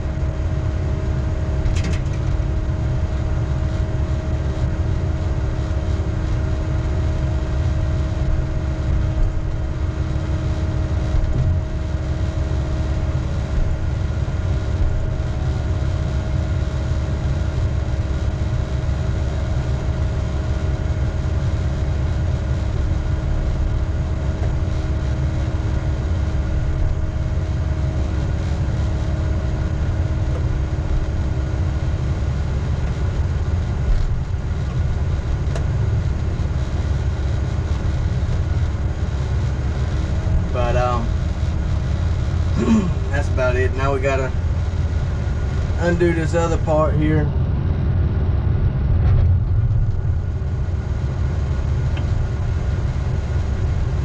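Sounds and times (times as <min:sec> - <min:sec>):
diesel engine running: 0:00.0 - 0:54.0
steady hum: 0:00.0 - 0:54.0.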